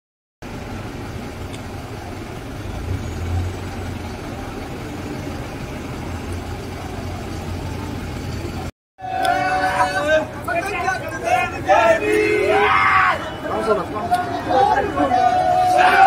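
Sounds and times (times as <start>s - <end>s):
low engine hum: 0.4s - 16.0s
traffic noise: 0.4s - 16.0s.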